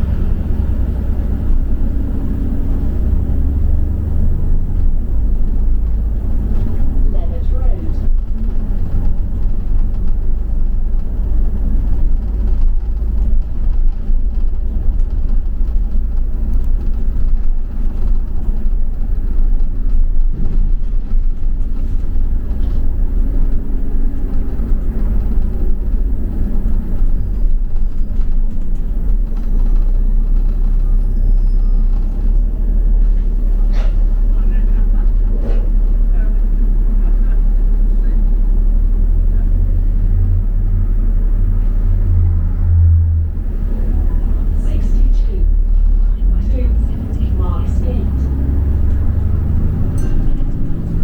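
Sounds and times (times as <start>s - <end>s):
bus engine and road rumble: 0.0s - 51.0s.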